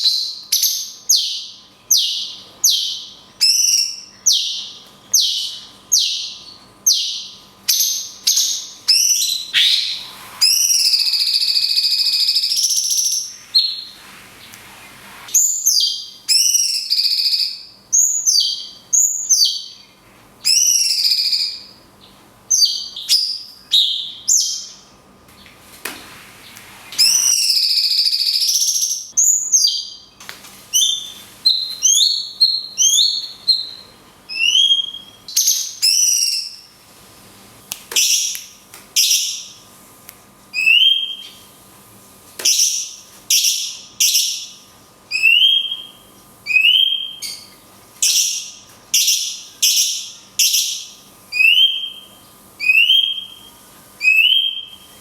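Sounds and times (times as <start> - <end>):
bird whistling song: 0.0 - 14.6, 15.3 - 19.8, 20.4 - 21.8, 22.5 - 24.9, 27.0 - 36.7, 38.0 - 38.4, 39.0 - 39.6, 40.5 - 41.5, 42.4 - 55.0.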